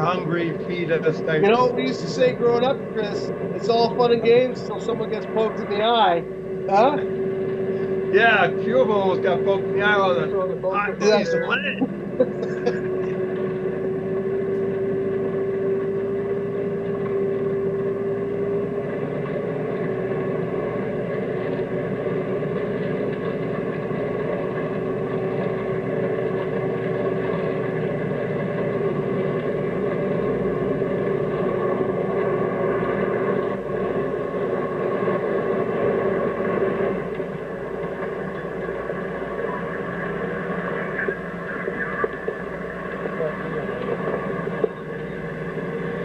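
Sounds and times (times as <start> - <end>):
continuous whine: 0.0 - 46.0
truck engine and road noise: 0.0 - 46.0.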